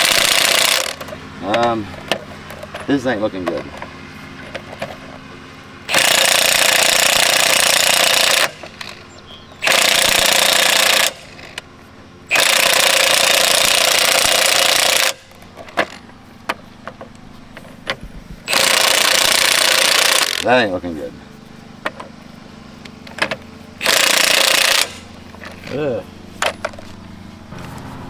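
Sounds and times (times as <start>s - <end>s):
pneumatic air tool running: 0.0s - 28.0s.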